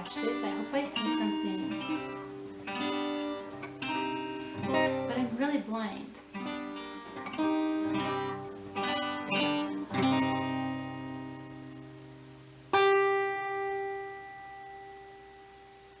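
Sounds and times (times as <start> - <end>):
plucked guitar note ringing: 0.0 - 5.4, 6.3 - 15.7
acoustic guitar strums: 0.0 - 15.9.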